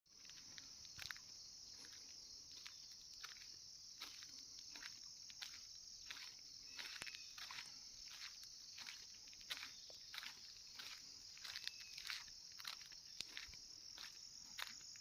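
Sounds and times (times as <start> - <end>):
insects buzzing: 0.1 - 15.0.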